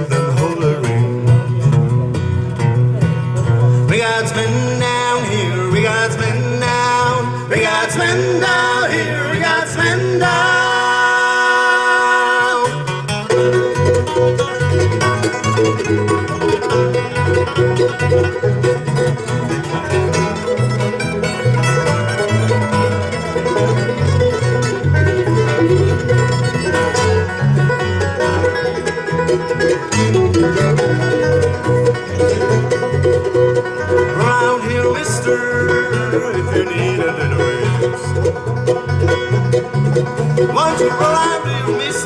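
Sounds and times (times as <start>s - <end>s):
country band playing instrumental: 0.0s - 42.0s.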